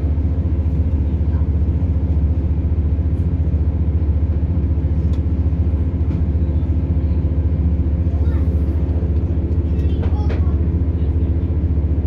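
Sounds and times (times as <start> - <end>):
train diesel engine rumble: 0.0 - 12.0.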